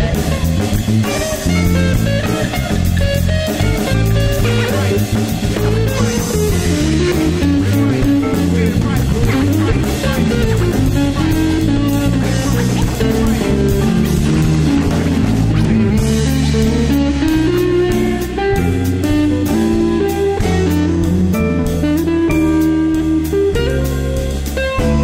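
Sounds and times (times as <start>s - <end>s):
bass guitar: 0.0s - 25.0s
drum kit: 0.0s - 25.0s
electric guitar melody: 0.0s - 25.0s.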